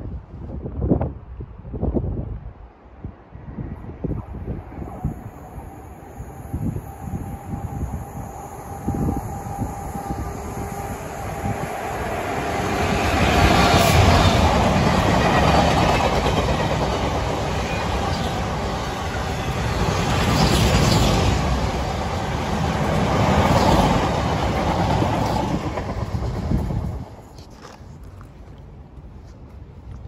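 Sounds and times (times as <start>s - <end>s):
freight train wheels rumbling: 4.8s - 30.0s.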